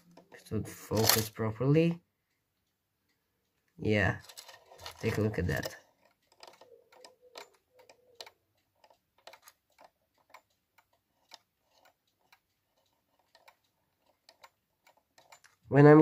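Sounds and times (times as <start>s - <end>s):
clock ticking faintly: 0.0s - 16.0s.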